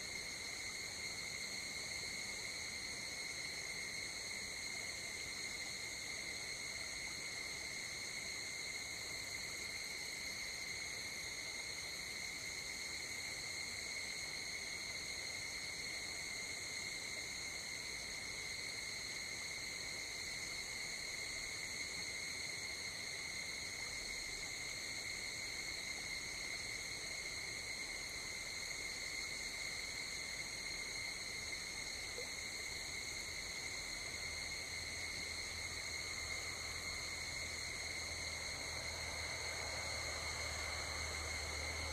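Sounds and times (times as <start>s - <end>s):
night insects chorus: 0.0s - 41.9s.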